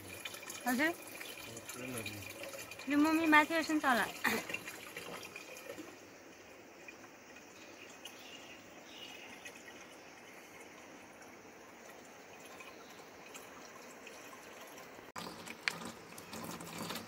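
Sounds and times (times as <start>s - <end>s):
water trickling onto rocks: 0.0s - 17.0s.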